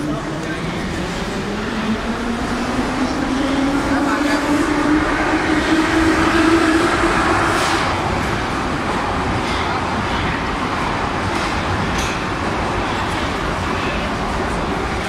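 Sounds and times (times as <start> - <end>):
train cars rumbling past: 0.0 - 15.0.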